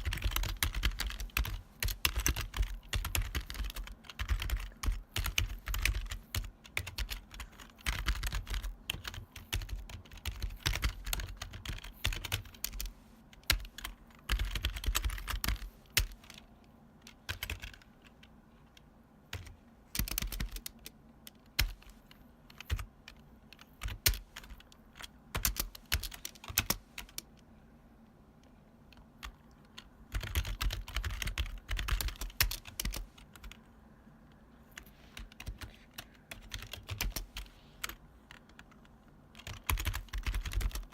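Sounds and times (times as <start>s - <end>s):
mechanical keyboard typing: 0.0s - 27.4s, 28.9s - 33.6s, 34.7s - 40.9s.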